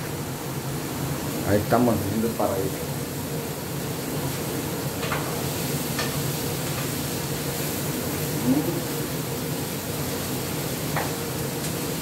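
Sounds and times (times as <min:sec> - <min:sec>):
food hissing in a pan: 0:00.2 - 0:12.0.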